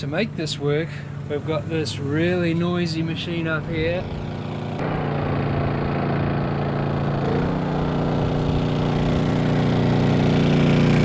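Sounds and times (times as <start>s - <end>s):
generator engine hum: 0.0s - 11.0s.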